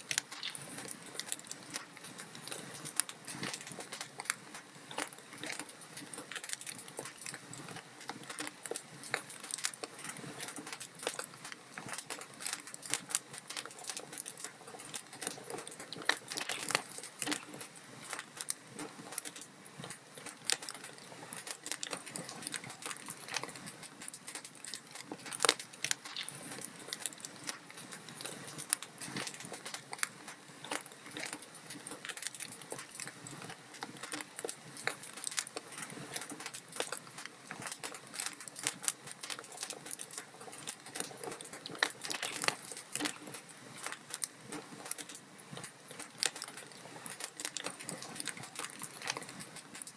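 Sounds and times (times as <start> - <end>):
log fire crackling and popping: 0.0 - 49.9.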